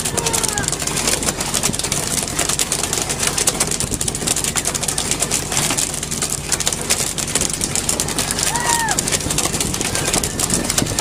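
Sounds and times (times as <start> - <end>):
boat engine running: 0.0 - 11.0
sharp clicks and knocks: 0.0 - 11.0.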